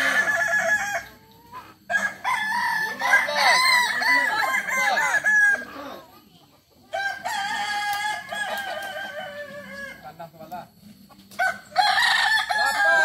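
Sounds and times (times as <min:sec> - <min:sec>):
roosters crowing: 0:00.0 - 0:06.0, 0:06.8 - 0:10.2, 0:11.2 - 0:13.0.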